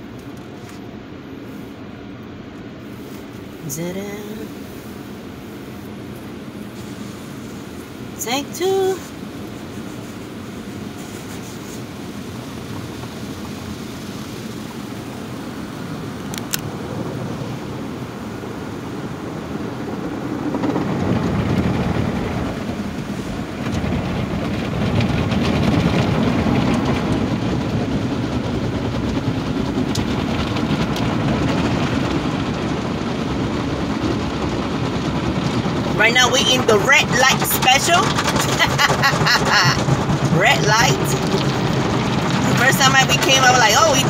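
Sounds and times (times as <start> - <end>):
car wash water spray and machinery: 0.0 - 44.0.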